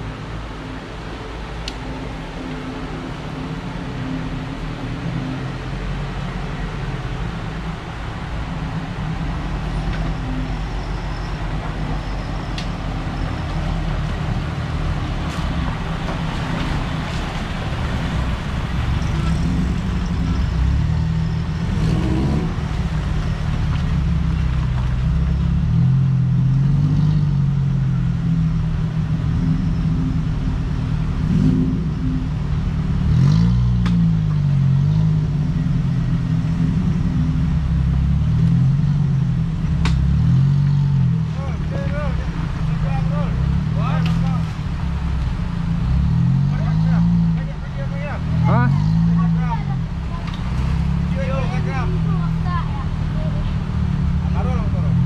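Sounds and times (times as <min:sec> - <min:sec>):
off-road vehicle engine revving: 0:04.6 - 0:55.0.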